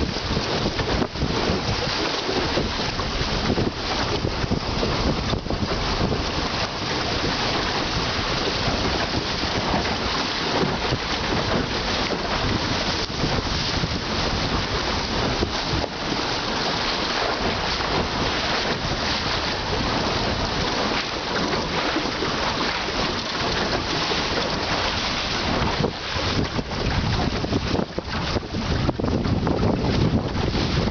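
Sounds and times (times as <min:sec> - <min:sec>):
water splashing along hull: 0:00.0 - 0:30.9
wind on microphone: 0:00.0 - 0:30.9.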